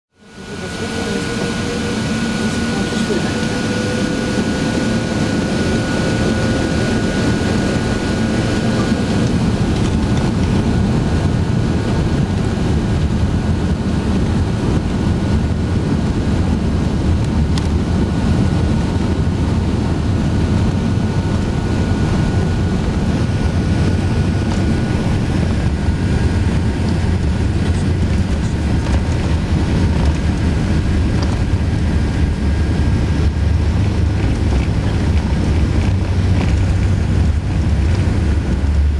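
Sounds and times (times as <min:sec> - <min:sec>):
aircraft cabin rumble: 0:00.2 - 0:38.9.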